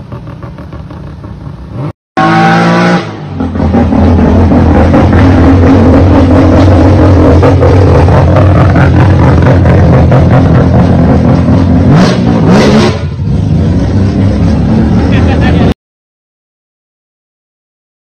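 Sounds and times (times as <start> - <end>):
car engine revving high: 0.2 - 15.7.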